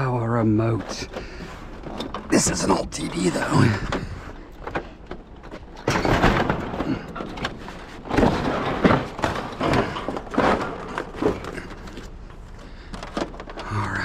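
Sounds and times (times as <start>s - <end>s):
junk knocking and scraping: 0.0s - 14.0s.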